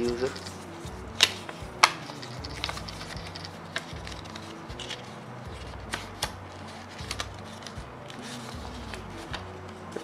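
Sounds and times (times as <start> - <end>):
paper rustling and crinkling: 0.0 - 10.0
steady low hum: 0.0 - 10.0.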